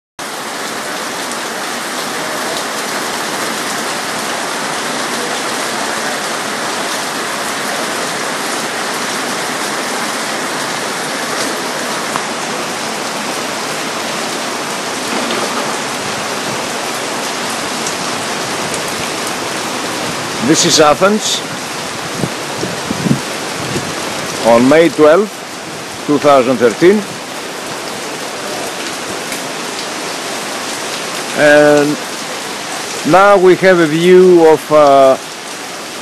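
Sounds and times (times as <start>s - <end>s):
heavy rain pouring: 0.2s - 36.0s.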